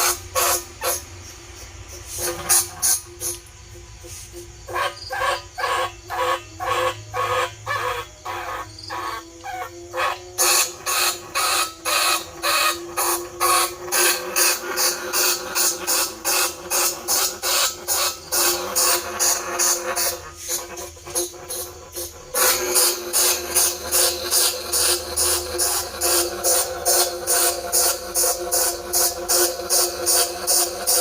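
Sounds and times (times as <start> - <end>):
rat squeaking: 4.0 - 30.9.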